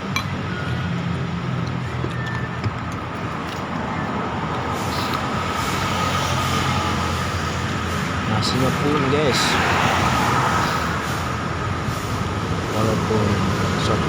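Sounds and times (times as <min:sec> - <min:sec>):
passing traffic road noise: 0:00.0 - 0:14.0.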